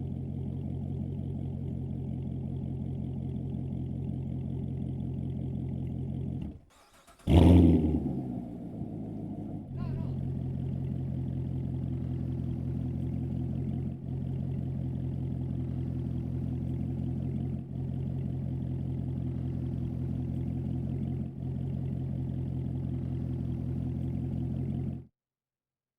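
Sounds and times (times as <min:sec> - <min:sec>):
car engine idling: 0:00.0 - 0:25.1.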